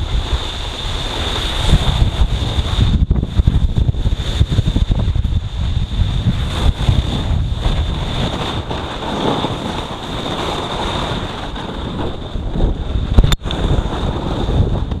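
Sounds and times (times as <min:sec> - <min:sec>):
board sliding on snow: 0:00.0 - 0:15.0
wind buffeting microphone: 0:00.0 - 0:15.0.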